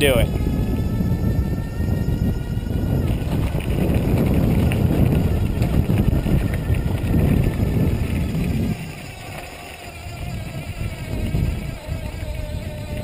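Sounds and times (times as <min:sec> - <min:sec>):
electric bike motor whining: 0:00.0 - 0:13.0
wind and tyre rumble: 0:00.0 - 0:13.0.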